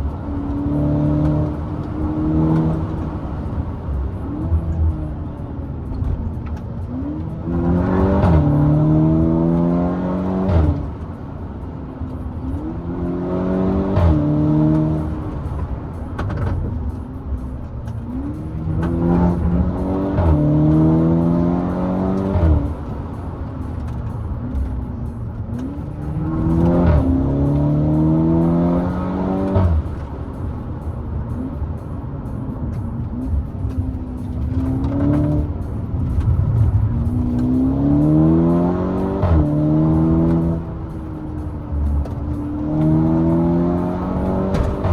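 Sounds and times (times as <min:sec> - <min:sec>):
turbocharged car engine accelerating: 0:00.0 - 0:44.9.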